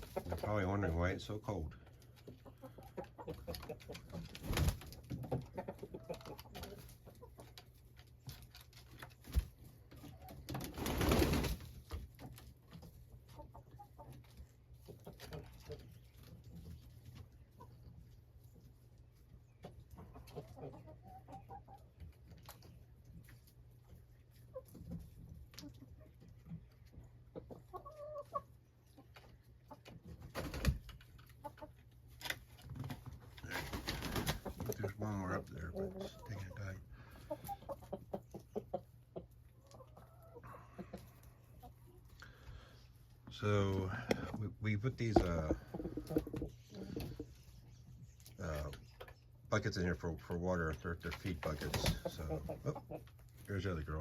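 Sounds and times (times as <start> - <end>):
chickens cooing and clucking: 0.0 - 49.5, 51.2 - 54.0.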